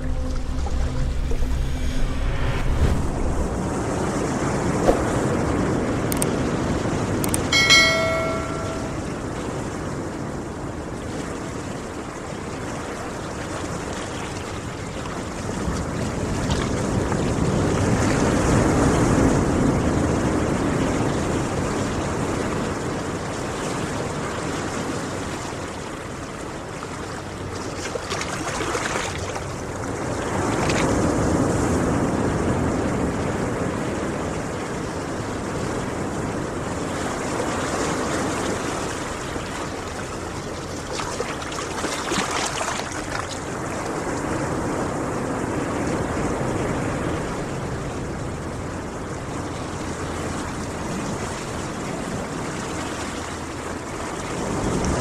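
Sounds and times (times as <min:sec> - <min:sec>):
waves breaking on beach: 0:03.5 - 0:55.0.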